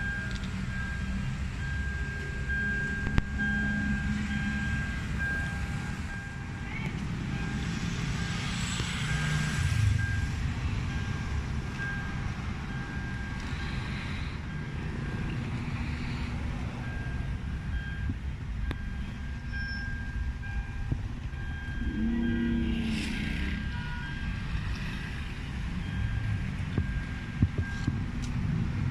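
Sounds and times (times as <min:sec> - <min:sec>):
low vehicle rumble: 0:00.0 - 0:28.9.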